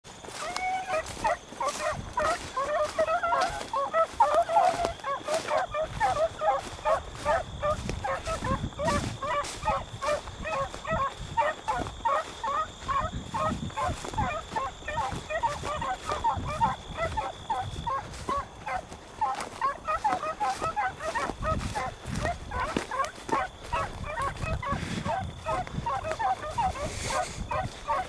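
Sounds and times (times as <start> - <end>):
hounds baying: 0.1 - 28.0.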